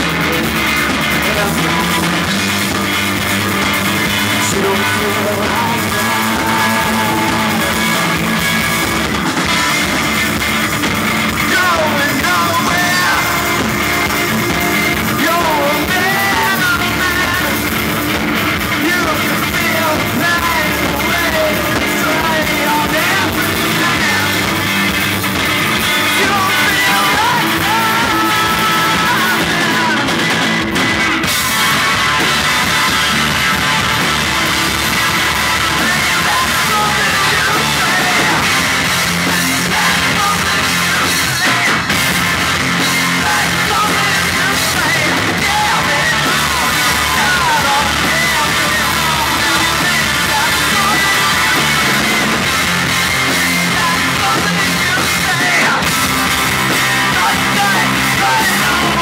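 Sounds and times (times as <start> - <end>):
bass guitar: 0.0 - 59.0
distorted electric guitar: 0.0 - 59.0
drum kit: 0.0 - 59.0.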